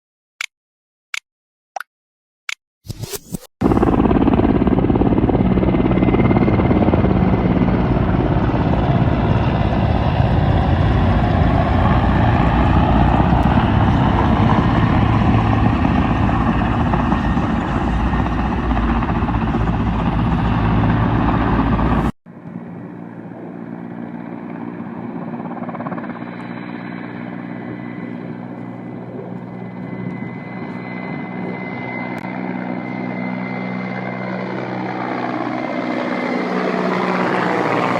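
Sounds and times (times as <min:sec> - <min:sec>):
helicopter rotor and turbine: 0:02.9 - 0:37.9
helicopter thin whine: 0:02.9 - 0:37.9.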